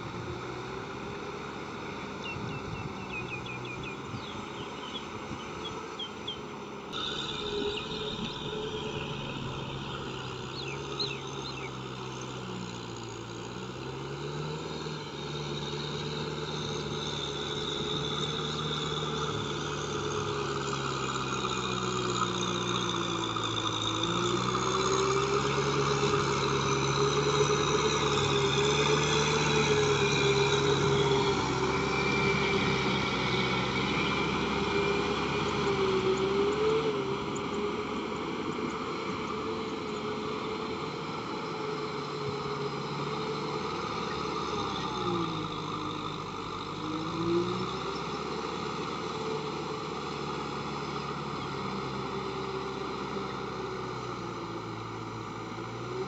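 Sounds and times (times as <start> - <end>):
tiller churning mud: 0.0 - 56.0
tractor diesel engine running: 0.0 - 56.0.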